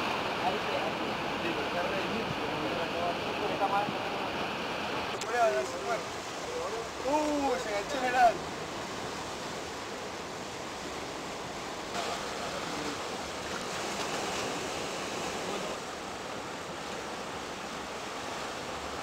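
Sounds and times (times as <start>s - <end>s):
surf washing over rocks: 0.0s - 19.0s.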